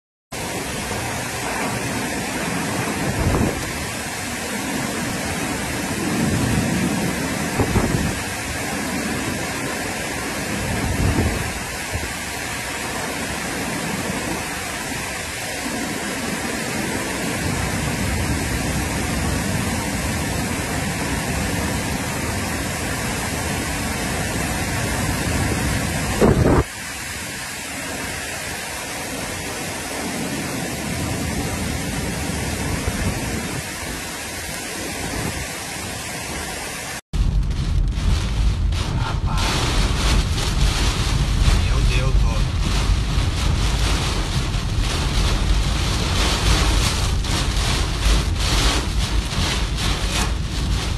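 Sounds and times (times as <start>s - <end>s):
heavy rain: 0.3s - 50.9s
wind gusts buffeting microphone: 0.4s - 50.9s.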